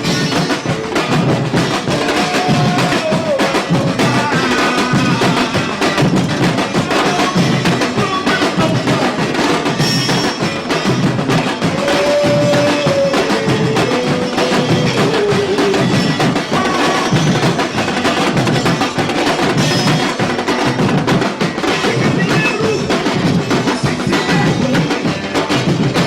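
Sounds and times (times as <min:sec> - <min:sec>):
percussion ensemble drumming: 0:00.0 - 0:26.0.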